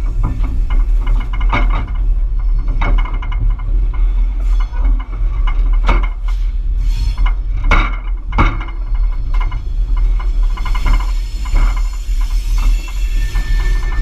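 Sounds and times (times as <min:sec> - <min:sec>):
diesel locomotive rumbling: 0:00.0 - 0:14.0
wheels clanking on track: 0:00.0 - 0:14.0.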